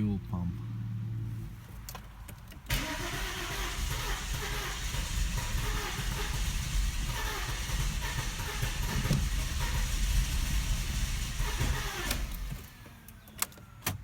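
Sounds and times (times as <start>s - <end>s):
car engine cranking: 1.7s - 14.0s.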